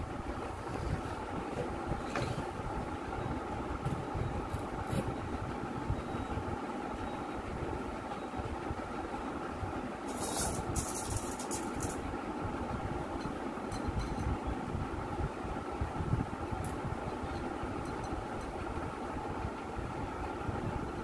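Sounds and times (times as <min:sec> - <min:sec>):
machine hum and rumble: 0:00.0 - 0:21.0.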